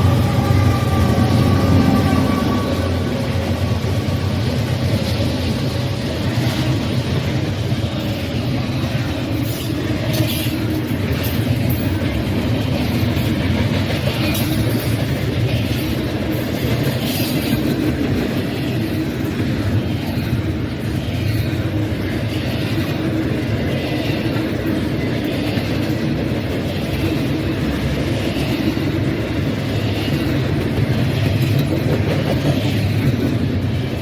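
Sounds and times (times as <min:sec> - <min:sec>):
rail joint clacks: 0:00.0 - 0:34.0
train wheels rumbling on rails: 0:00.0 - 0:34.0.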